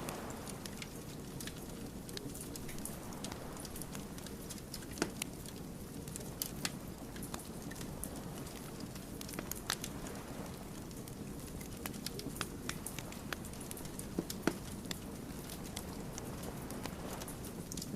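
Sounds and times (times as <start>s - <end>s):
firewood crackling and popping: 0.0s - 17.9s
low rush of flames: 0.0s - 17.9s.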